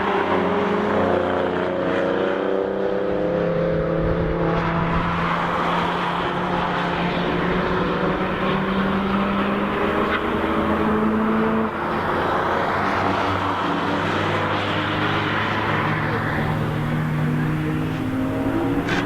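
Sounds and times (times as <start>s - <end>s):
race cars driving past: 0.0s - 19.0s.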